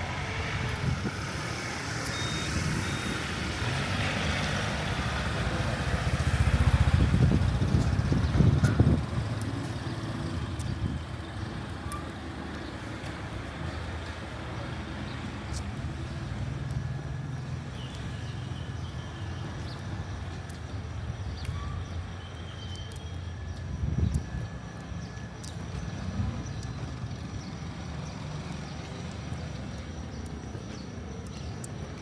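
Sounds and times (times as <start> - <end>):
traffic engine hum: 0.0 - 32.0.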